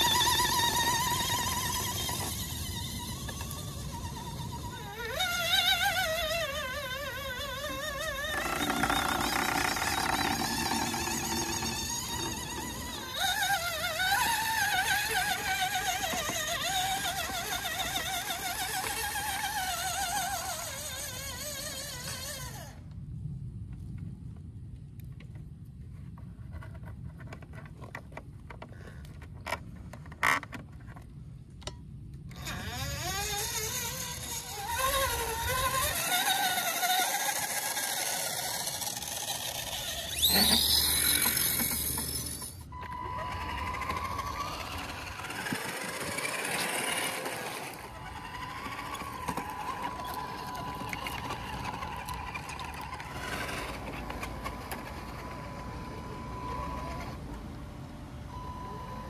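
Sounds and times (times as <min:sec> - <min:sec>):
toy truck electric motor whining: 0:00.0 - 0:22.8, 0:32.3 - 0:59.0.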